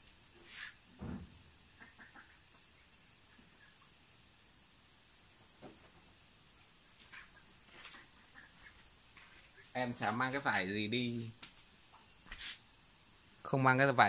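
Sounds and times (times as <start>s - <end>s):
faint high whine: 0.0s - 14.0s
faint high chirps: 1.8s - 14.0s.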